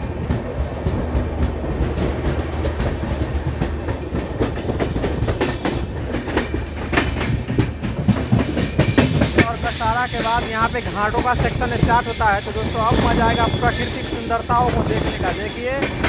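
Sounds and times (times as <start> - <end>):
train running gear rumble: 0.0 - 16.0
wheels clattering over rail joints: 1.4 - 16.0.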